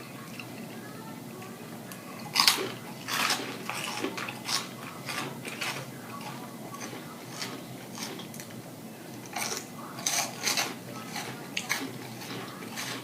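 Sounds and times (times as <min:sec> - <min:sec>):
chewing crunchy food: 0:00.0 - 0:13.0.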